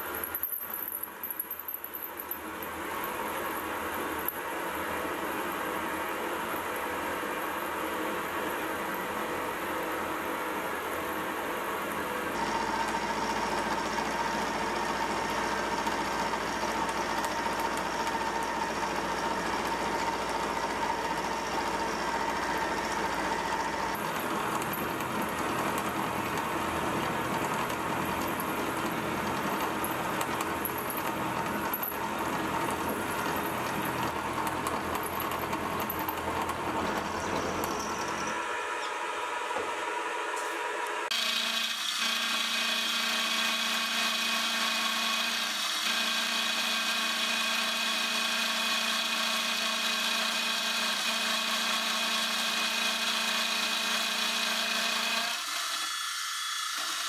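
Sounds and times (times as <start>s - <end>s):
milling machine cutting steel: 1.1s - 39.5s, 41.0s - 57.0s.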